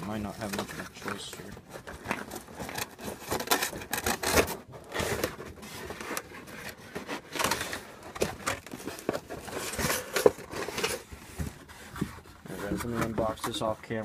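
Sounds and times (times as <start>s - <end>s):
cardboard box rubbing and scraping: 0.4s - 13.8s.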